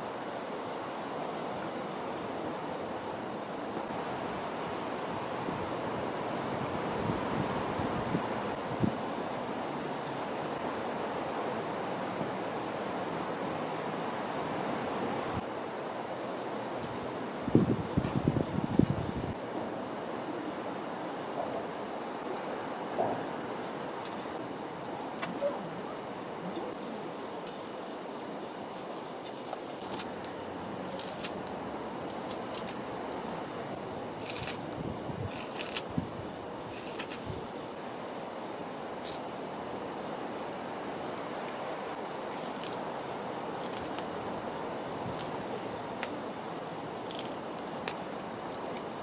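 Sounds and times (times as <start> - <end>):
faint chirring insects: 0.0 - 49.0
outdoor background hiss: 0.0 - 49.0.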